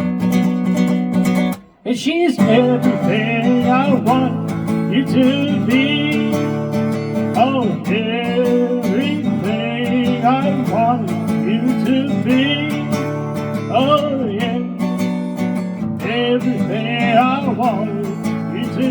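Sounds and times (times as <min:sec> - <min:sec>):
lead guitar melody: 0:00.0 - 0:01.8, 0:02.4 - 0:18.9
strummed guitar: 0:00.0 - 0:18.9.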